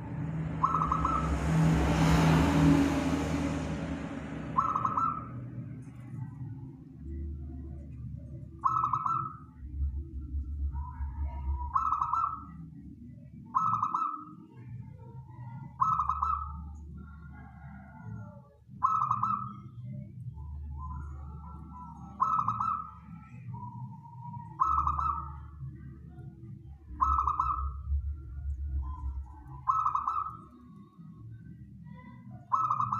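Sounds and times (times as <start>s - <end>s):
dove cooing: 0.0s - 12.8s, 13.4s - 20.0s, 20.8s - 25.9s, 26.9s - 30.9s, 31.9s - 32.9s
low steady hum: 0.0s - 17.4s, 18.8s - 32.9s.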